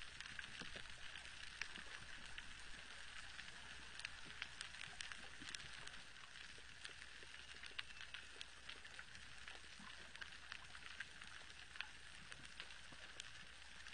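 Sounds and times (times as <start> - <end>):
snapping shrimp crackle: 0.0 - 13.9
steady underwater hiss: 0.0 - 13.9.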